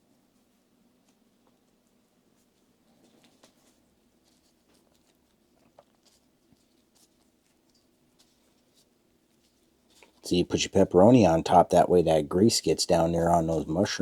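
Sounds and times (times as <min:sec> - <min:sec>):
soft rustling of food by hand: 0:00.0 - 0:14.0.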